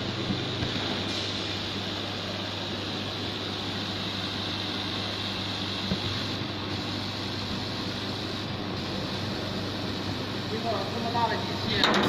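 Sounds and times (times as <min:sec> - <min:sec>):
laser cutter blowers whirring: 0:00.0 - 0:12.0.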